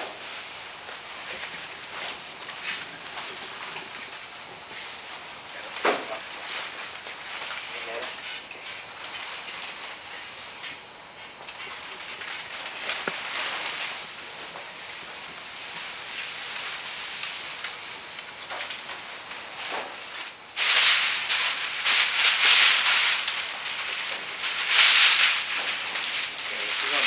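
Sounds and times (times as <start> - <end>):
paper and vinyl rustling: 0.0 - 27.0.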